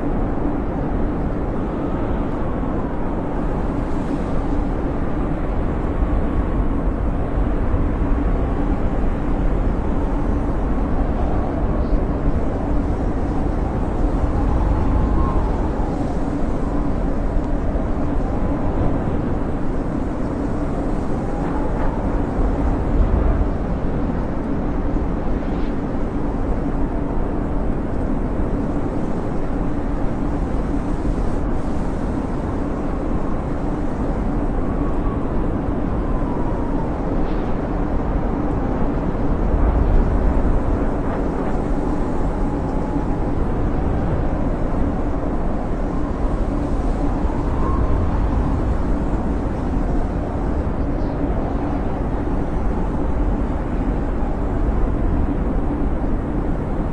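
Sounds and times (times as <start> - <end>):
howling storm wind: 0.0 - 56.9.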